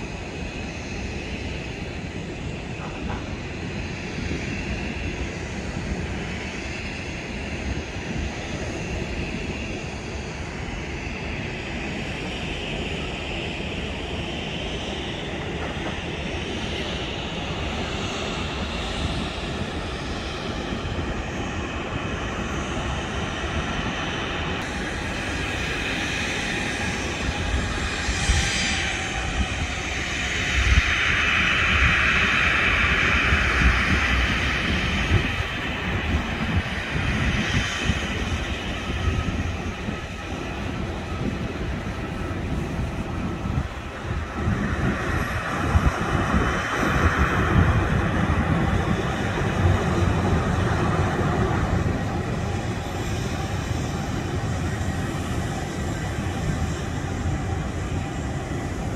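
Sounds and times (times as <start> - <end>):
high engine whine: 0.0 - 58.9
jet engines rumbling: 0.0 - 58.9.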